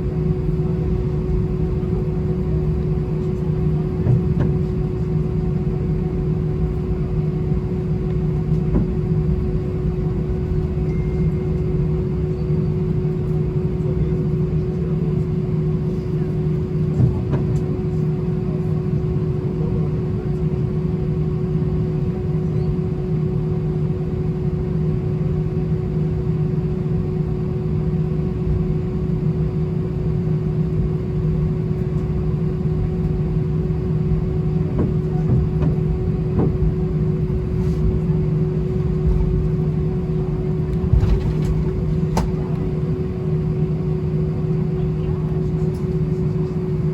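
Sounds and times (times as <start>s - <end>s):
aircraft cabin drone: 0.0s - 46.9s.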